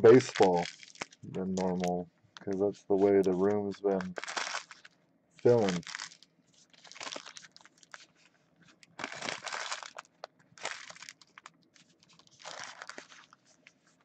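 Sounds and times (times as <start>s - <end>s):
cards rustling: 0.0s - 14.0s
plastic wrappers crinkling: 0.0s - 14.0s.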